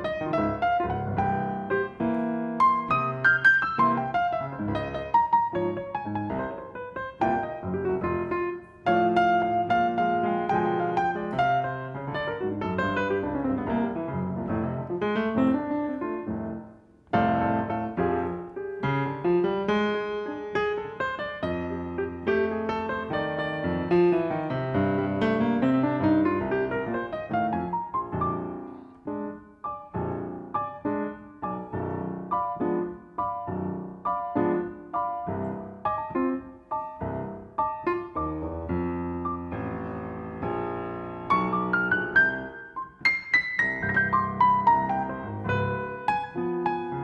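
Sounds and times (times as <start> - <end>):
blues piano playing: 0.0 - 47.0.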